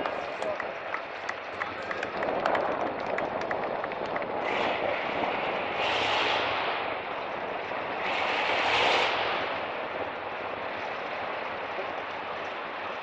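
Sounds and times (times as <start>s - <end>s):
rushing rumble: 0.0s - 13.0s
truck engine revving: 0.0s - 13.0s.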